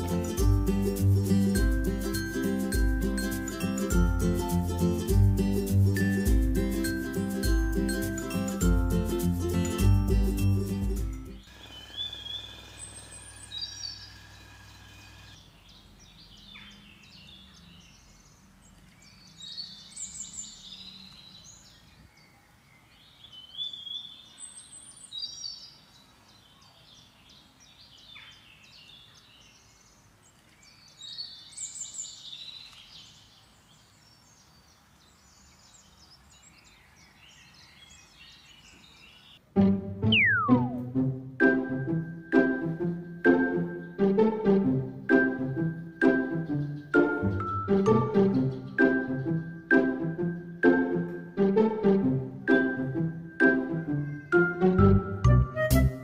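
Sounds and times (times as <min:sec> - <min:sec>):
birds chirping and singing: 0:06.8 - 0:40.8, 0:42.8 - 0:52.2, 0:53.4 - 0:56.0.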